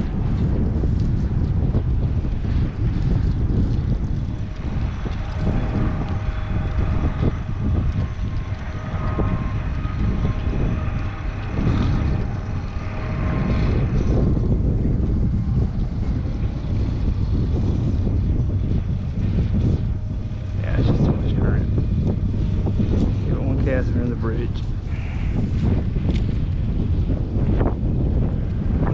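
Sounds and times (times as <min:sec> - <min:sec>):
faint mechanical hum: 0:00.0 - 0:28.9
wind buffeting microphone: 0:00.0 - 0:28.9.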